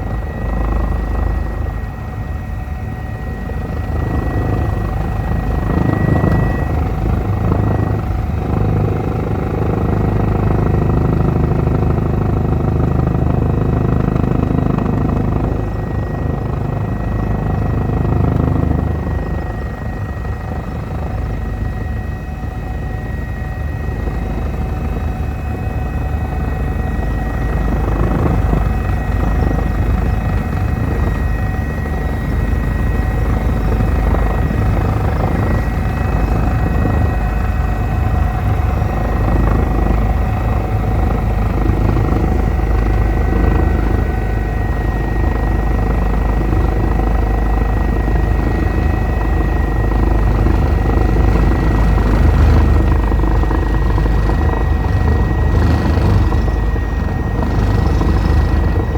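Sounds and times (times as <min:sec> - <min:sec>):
helicopter rotor and turbine noise: 0:00.0 - 0:58.9.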